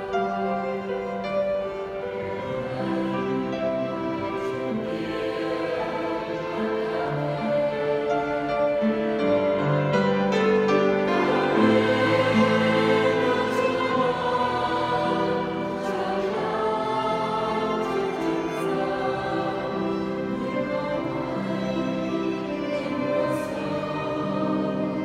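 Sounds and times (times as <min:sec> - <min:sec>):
mixed choir singing: 0:00.0 - 0:25.0.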